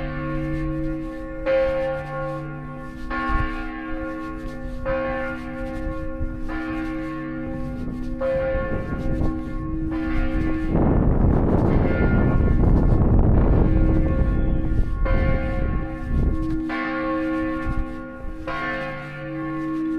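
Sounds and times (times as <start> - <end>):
church bell tolling: 0.0 - 19.9.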